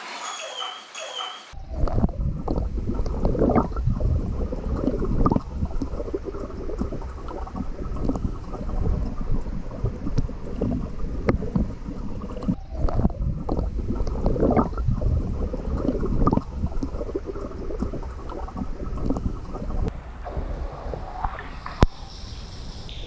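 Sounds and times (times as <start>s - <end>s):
muffled underwater churning: 1.6s - 22.2s.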